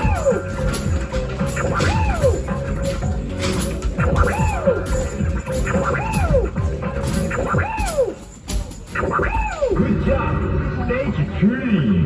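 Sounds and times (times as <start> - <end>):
looped electronic game music: 0.0 - 12.0.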